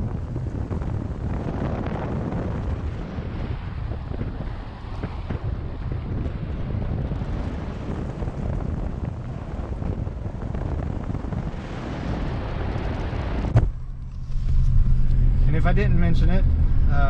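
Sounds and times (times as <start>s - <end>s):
road and wind noise in truck cabin: 0.0s - 17.0s.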